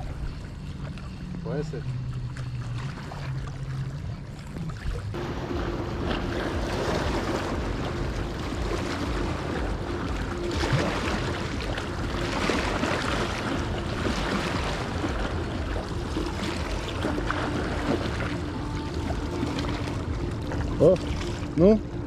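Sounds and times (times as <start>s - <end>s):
faint hum: 0.0s - 22.0s
water noise: 0.0s - 22.0s
wind: 0.0s - 22.0s.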